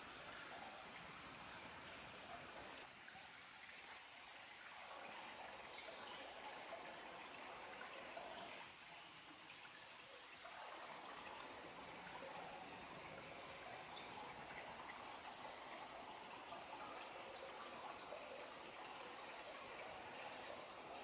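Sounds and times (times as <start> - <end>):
trickle of running water: 0.0 - 21.0.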